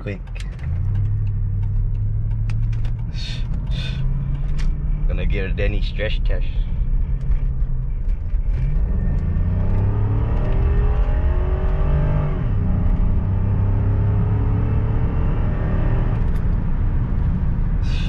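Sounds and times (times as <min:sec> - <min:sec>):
car engine accelerating hard: 0:00.5 - 0:18.0.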